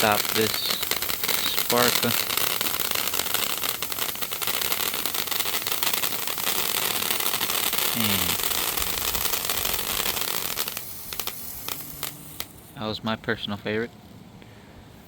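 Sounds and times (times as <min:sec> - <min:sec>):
firework crackling: 0:00.0 - 0:14.3.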